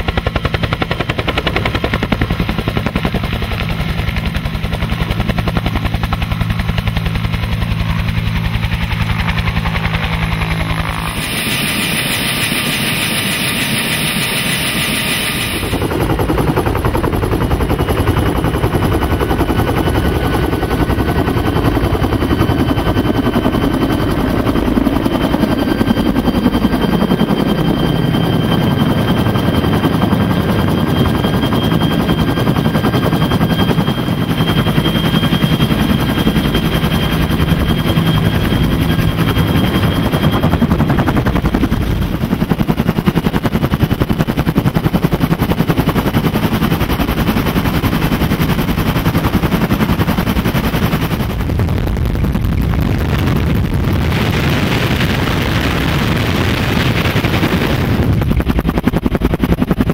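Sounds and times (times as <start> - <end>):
helicopter rotor chopping: 0.0 - 59.9
turbine whine: 0.0 - 59.9.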